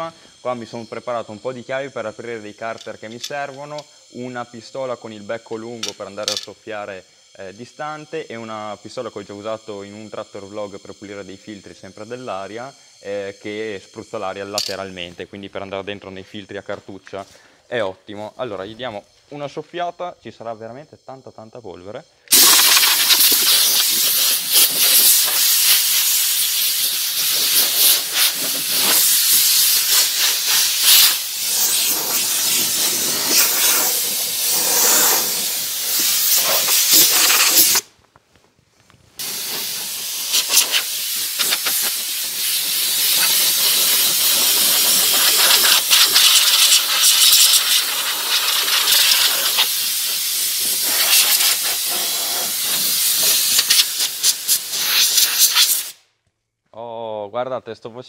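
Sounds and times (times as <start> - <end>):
compressed air blow gun hissing: 0.0 - 15.2, 22.1 - 37.9, 39.2 - 56.1.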